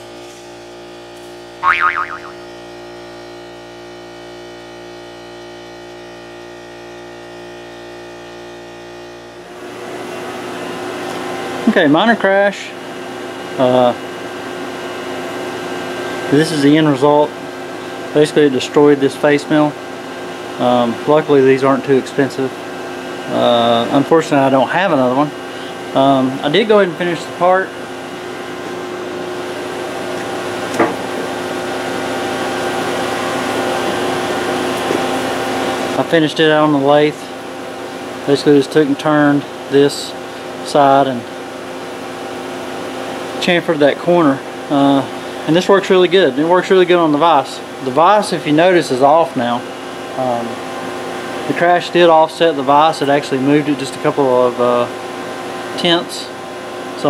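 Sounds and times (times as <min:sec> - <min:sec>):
mill spindle whine: 0:00.0 - 0:57.0.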